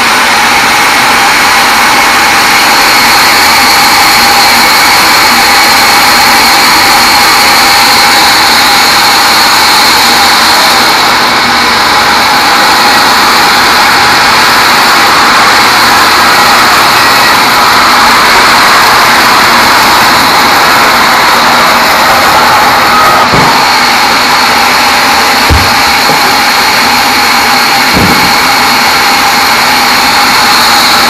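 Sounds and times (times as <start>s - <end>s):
band saw running with high whine: 0.0s - 31.0s.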